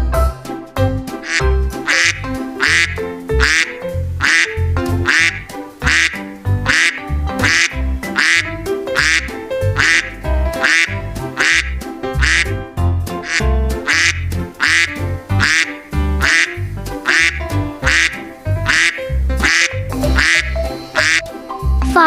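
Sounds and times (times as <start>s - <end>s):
children's background music: 0.0s - 22.0s
duck quacking: 1.2s - 12.6s, 13.2s - 21.3s.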